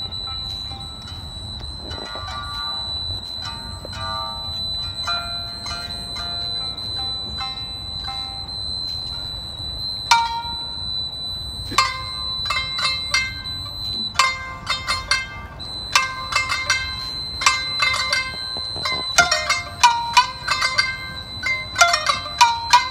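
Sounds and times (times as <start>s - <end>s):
plucked-string music: 0.0s - 22.9s
steady high whine: 0.0s - 22.9s.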